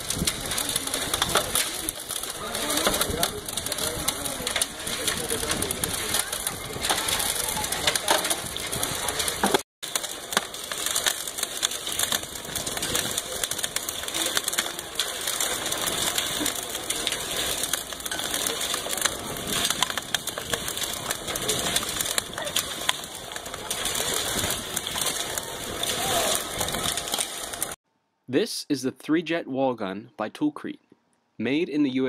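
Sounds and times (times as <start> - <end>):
sand and gravel rattling in drum: 0.0 - 27.8.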